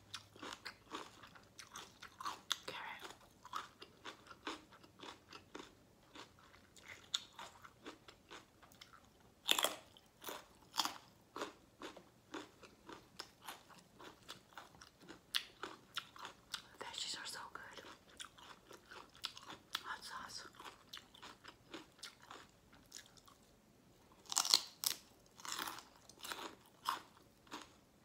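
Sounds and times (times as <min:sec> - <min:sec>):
chewing crunchy food: 0:00.0 - 0:27.8.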